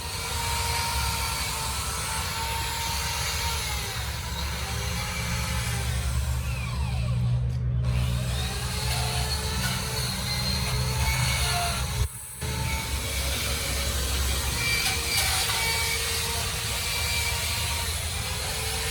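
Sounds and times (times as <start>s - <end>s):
low machine hum: 2.6s - 17.9s.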